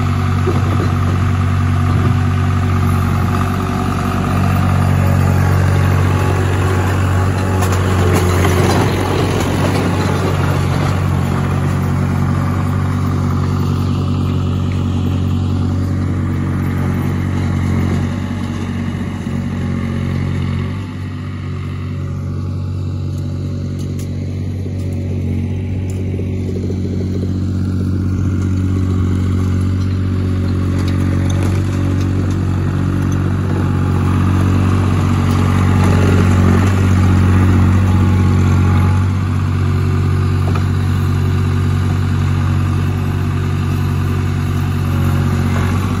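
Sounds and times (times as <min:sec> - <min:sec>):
skid steer engine running: 0:00.0 - 0:46.0.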